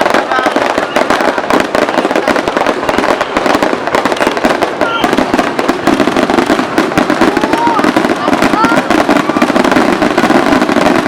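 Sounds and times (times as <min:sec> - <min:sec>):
firework whistle: 0:00.0 - 0:11.0
fireworks bangs and crackles: 0:00.0 - 0:11.0.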